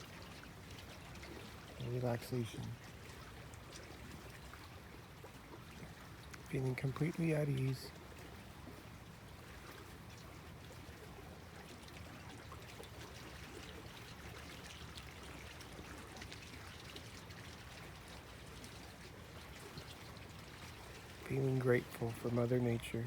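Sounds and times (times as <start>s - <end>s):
lake waves lapping at shore: 0.0s - 23.0s.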